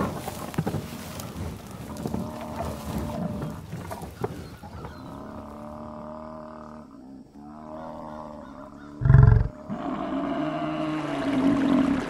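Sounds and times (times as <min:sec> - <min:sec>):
buffalo moaning: 0:00.0 - 0:12.0
buffalo deep grunt: 0:01.8 - 0:12.0.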